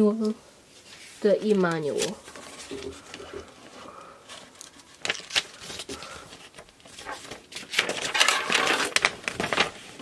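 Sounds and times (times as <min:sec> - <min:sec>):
paper rustling and crinkling: 0:00.7 - 0:10.0.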